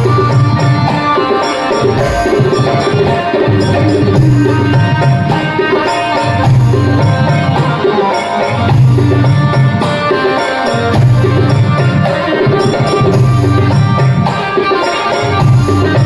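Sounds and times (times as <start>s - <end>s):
devotional music: 0.0s - 16.0s
drum-like percussion: 0.0s - 16.0s.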